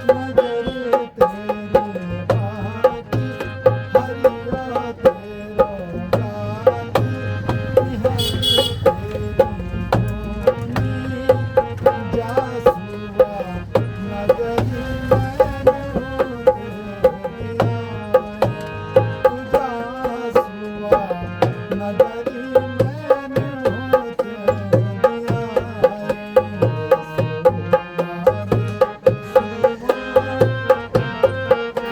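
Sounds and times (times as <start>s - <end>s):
hand drum rhythm: 0.0s - 31.9s.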